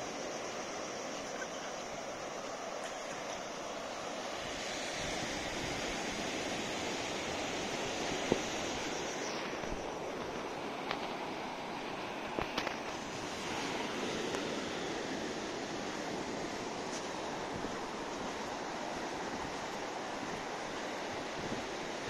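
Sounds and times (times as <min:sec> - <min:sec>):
surf washing on a beach: 0:00.0 - 0:22.0.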